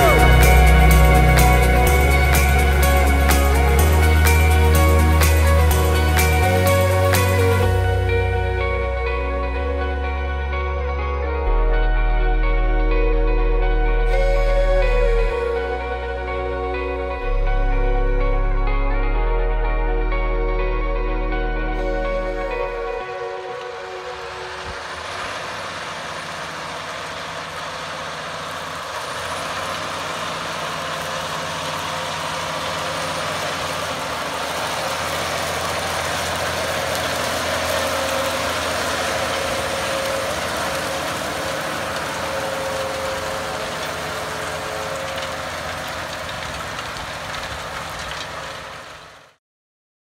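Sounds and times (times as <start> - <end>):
tractor diesel engine under load: 0.0 - 49.4.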